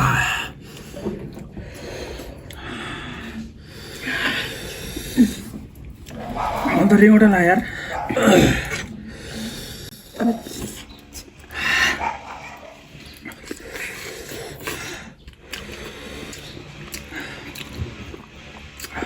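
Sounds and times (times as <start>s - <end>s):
person eating: 0.0s - 6.9s, 7.6s - 19.0s
noisy breathing and sniffing: 0.4s - 18.7s.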